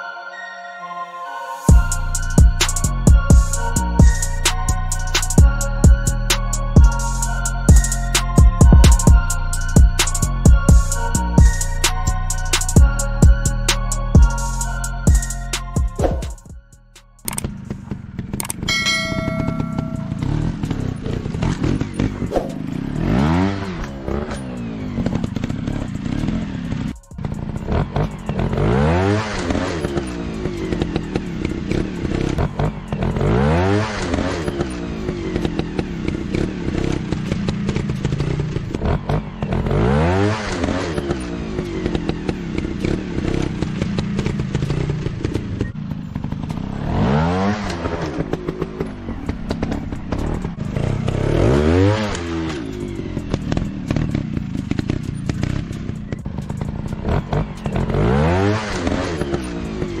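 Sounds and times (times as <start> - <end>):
motorcycle engine revving: 1.7 - 60.0.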